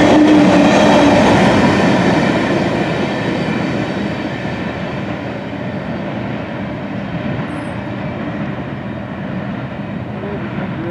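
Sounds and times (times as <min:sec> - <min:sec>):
freight train wheels rumbling on rails: 0:00.0 - 0:10.9.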